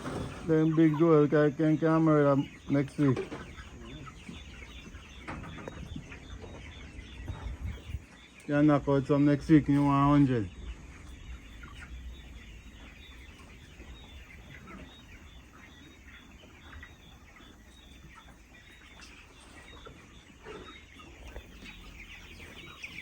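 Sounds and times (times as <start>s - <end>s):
chickens clucking and peeping: 0.0s - 23.0s.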